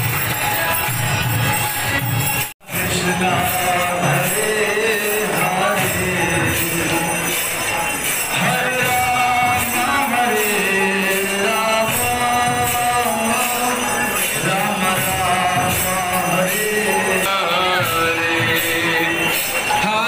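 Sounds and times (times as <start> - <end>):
jingling metal percussion: 0.0 - 20.0.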